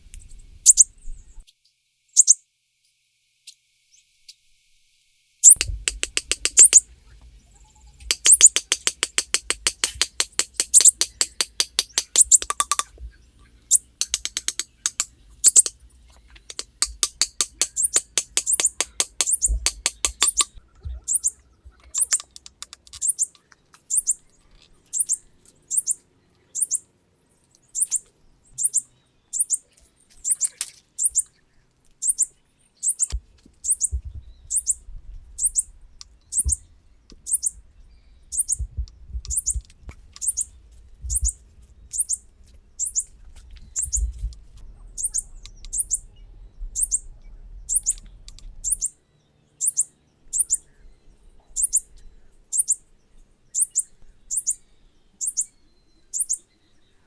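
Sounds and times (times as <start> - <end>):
bird chirping: 0.0 - 1.5, 2.2 - 2.4, 5.4 - 57.0.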